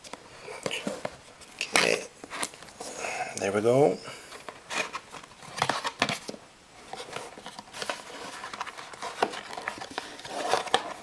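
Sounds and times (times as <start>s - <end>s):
cardboard and paper rustling: 0.0s - 2.9s, 4.3s - 11.0s.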